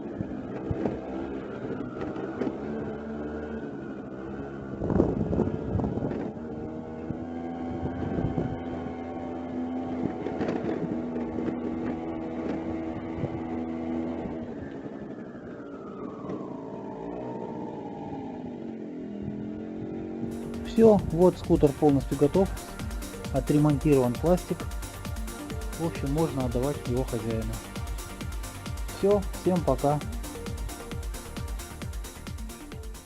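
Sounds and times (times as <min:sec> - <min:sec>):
scooter engine running: 0:00.0 - 0:33.0.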